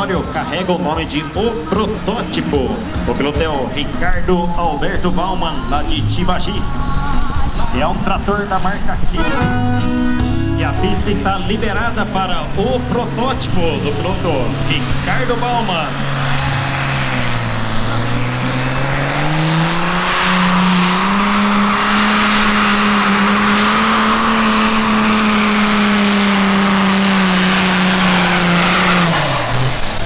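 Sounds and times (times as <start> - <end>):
tractor diesel engine at full load: 0.0 - 30.0.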